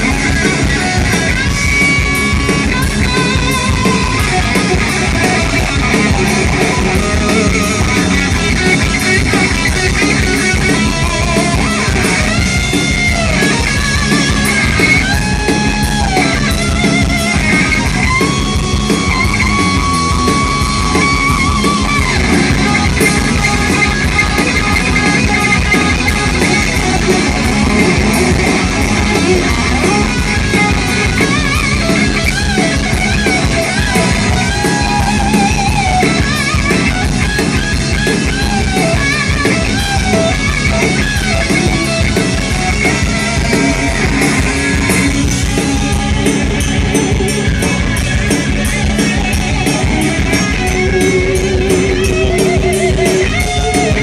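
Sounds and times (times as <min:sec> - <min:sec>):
electric lead guitar: 0:00.0 - 0:54.0
steady drum beat: 0:00.0 - 0:54.0.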